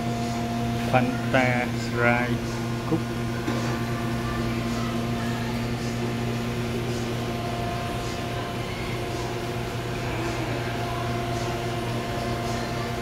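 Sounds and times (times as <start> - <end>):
electrical hum and fan noise: 0.0 - 13.0.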